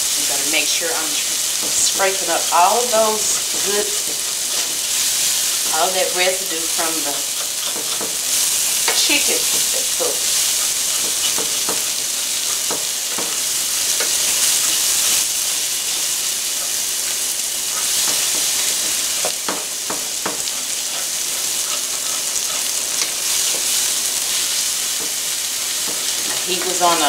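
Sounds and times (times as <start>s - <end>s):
vegetables sizzling in a skillet: 0.0s - 27.0s
wooden spoon scraping a pan: 0.2s - 27.0s.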